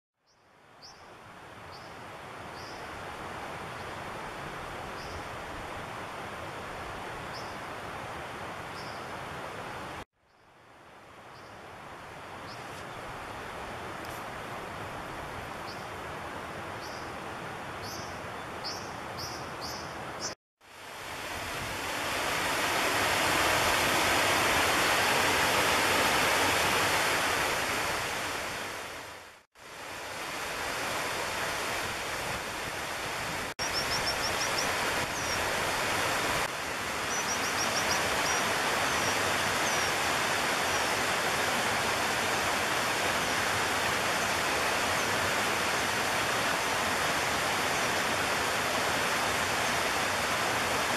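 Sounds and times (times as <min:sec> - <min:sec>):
rushing stream water: 0:00.5 - 0:50.9.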